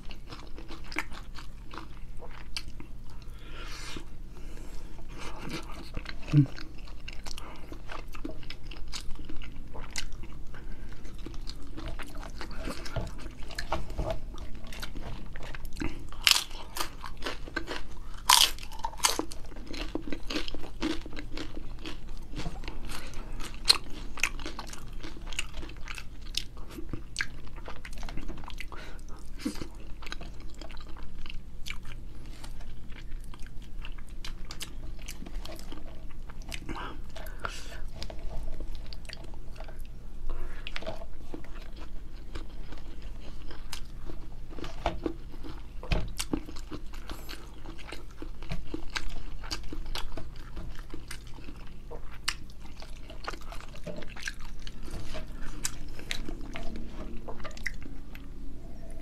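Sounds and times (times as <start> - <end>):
wet chewing with crunches: 0.0 - 59.0.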